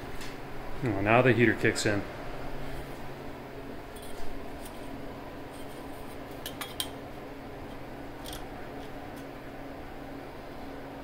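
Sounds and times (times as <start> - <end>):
heater humming: 0.0 - 11.0.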